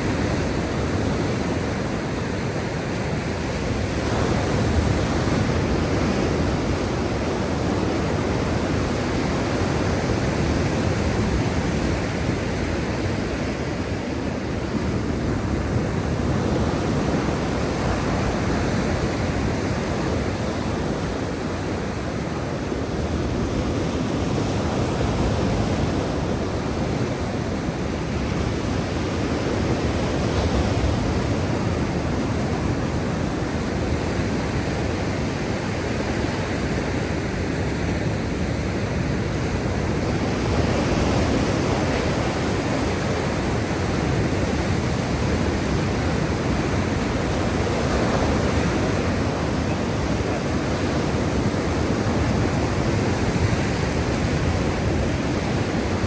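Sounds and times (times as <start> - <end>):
sea waves surf: 0.0 - 56.0.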